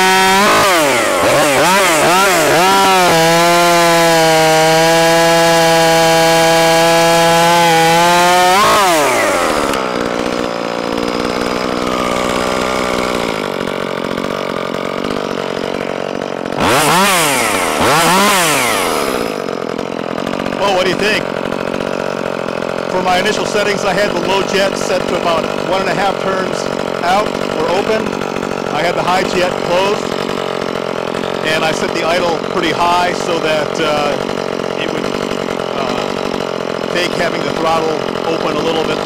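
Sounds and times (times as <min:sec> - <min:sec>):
chainsaw revving: 0:00.0 - 0:39.0.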